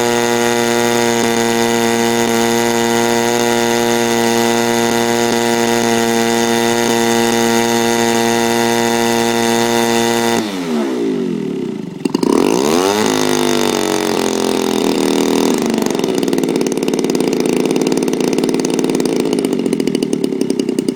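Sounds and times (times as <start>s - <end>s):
model aeroplane engine running: 0.0s - 20.9s.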